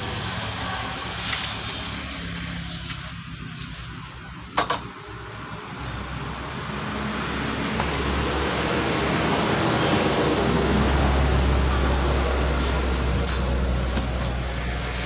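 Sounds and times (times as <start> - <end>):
vehicle rumble with hiss: 0.0 - 15.0.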